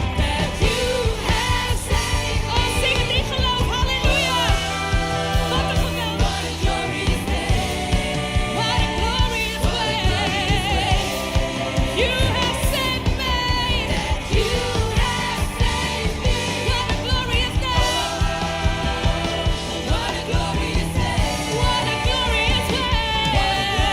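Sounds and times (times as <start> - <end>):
band playing steady beat: 0.0 - 23.9
singers with vibrato: 0.0 - 23.9.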